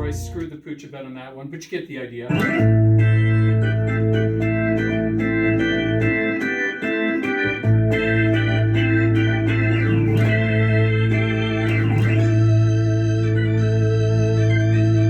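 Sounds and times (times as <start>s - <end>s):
organ playing held chords: 0.0s - 0.5s, 2.3s - 15.0s
low bass note: 0.0s - 0.6s, 2.3s - 6.4s, 7.5s - 15.0s.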